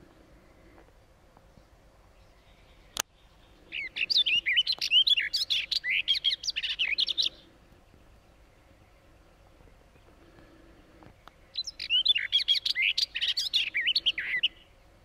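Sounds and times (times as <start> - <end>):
warbler singing: 1.5 - 15.0.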